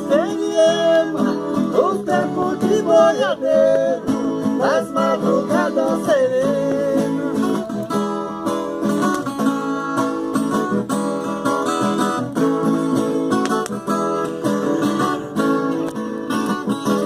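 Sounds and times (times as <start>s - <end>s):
folk guitar strummed chords: 0.0s - 17.0s.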